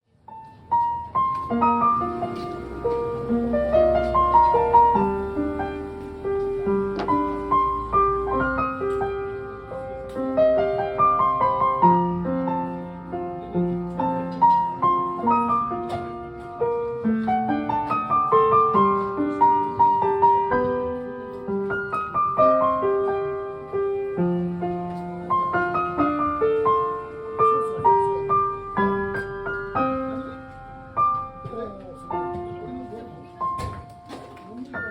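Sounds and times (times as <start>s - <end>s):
piano melody: 0.1s - 34.9s.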